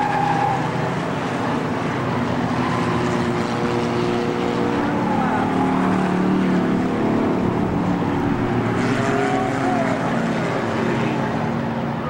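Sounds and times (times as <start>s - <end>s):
stock car engines racing: 0.0s - 12.0s.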